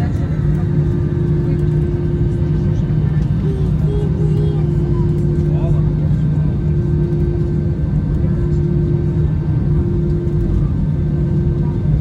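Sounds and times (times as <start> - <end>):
jet engine cabin rumble: 0.0 - 12.0
low hum: 0.0 - 12.0.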